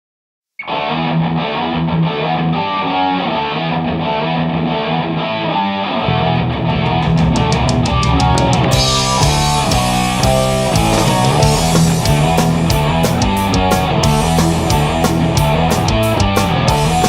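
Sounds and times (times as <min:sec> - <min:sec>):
electric guitar riff: 0:00.6 - 0:17.0.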